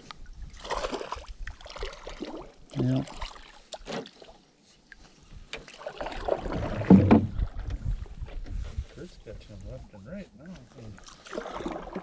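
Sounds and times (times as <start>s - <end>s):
paddle splashing water: 0.0s - 8.6s, 10.8s - 12.0s.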